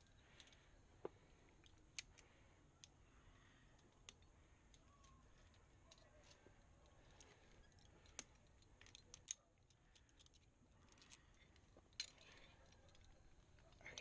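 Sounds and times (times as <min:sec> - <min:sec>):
metal climbing gear clicking: 0:00.0 - 0:00.7, 0:01.5 - 0:03.0, 0:03.7 - 0:14.0.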